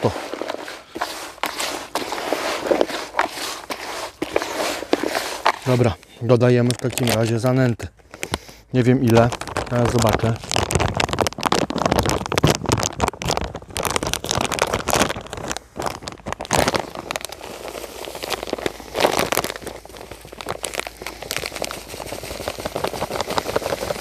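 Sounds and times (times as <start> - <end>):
dry bait rustling by hand: 0.0 - 7.4, 8.1 - 24.0
plastic bag crinkling: 0.0 - 24.0.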